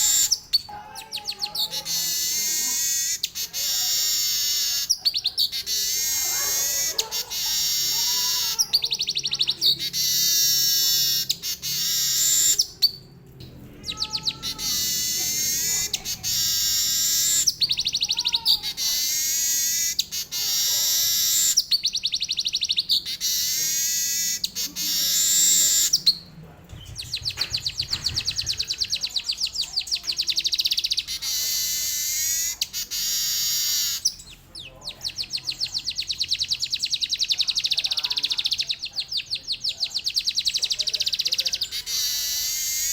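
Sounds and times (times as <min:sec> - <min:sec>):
weaver bird singing trills: 0:00.0 - 0:42.9.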